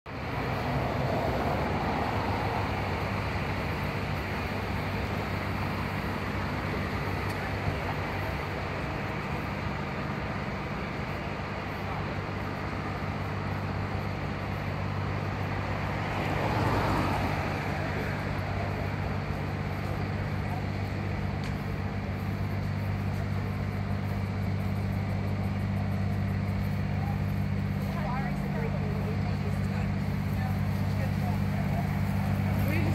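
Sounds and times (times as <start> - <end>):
low engine hum: 0.0 - 32.9
cars passing: 0.1 - 32.9.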